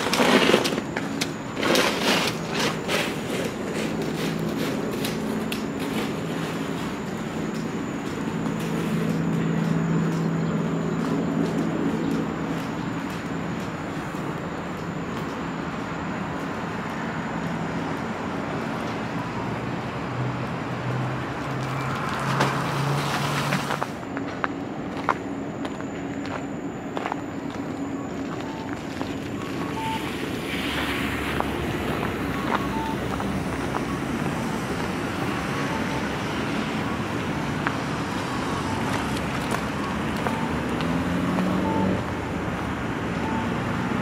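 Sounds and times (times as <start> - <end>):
vehicle passing close: 0.0 - 24.0, 28.4 - 44.0
hiss of passing traffic: 0.0 - 44.0
vehicle engines humming: 0.0 - 44.0.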